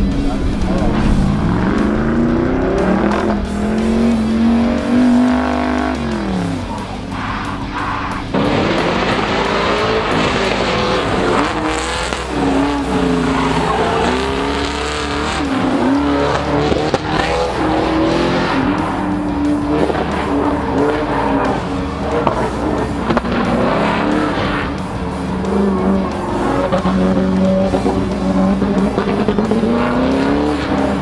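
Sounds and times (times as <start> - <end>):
pickup engine revving: 0.0 - 31.0
tires squealing: 0.0 - 31.0.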